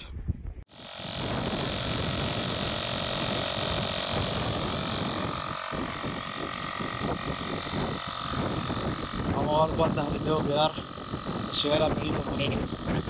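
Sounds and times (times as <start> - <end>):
faint mechanical hum: 0.0 - 13.0
wind buffeting microphone: 0.0 - 13.0.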